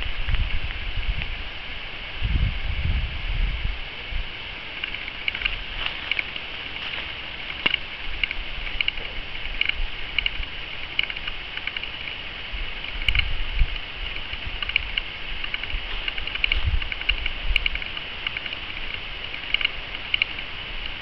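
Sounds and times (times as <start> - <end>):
low wind rumble on microphone: 0.0 - 21.0
steady high hiss: 0.0 - 21.0.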